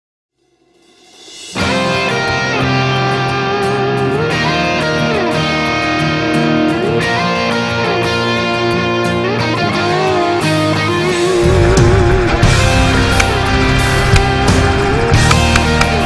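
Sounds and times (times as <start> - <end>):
electric guitar with steady beat: 1.2 - 16.0.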